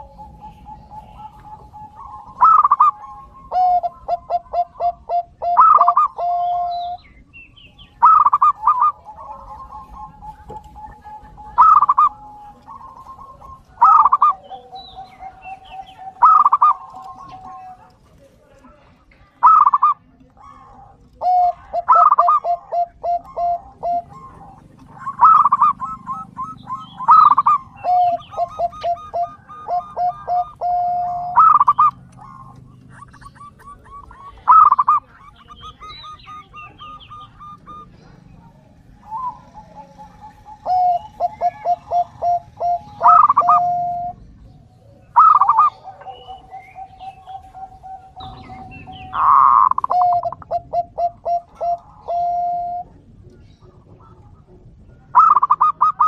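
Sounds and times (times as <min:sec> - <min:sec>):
dove singing coos: 0:00.0 - 0:56.0.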